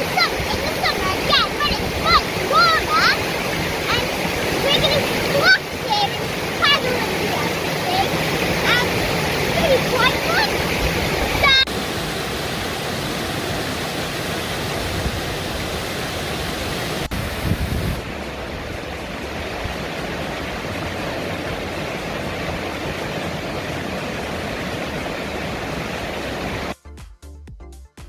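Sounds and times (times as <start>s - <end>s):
waterfall rushing over rocks: 0.0s - 26.8s.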